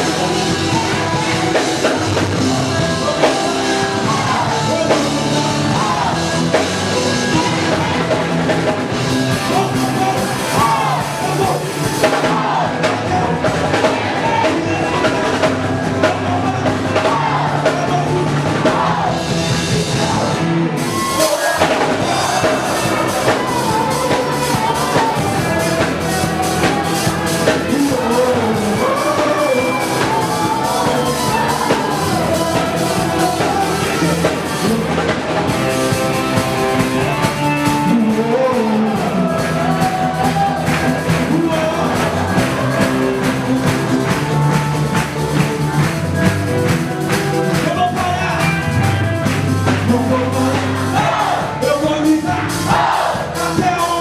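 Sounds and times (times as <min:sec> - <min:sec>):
rock band with singing: 0:00.0 - 0:54.0.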